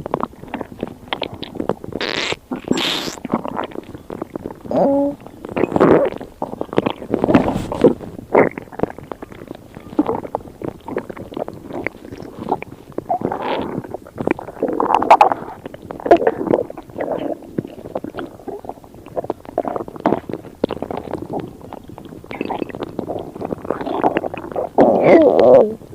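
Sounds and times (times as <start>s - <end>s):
stomach rumbling and gurgling: 0.0s - 25.9s.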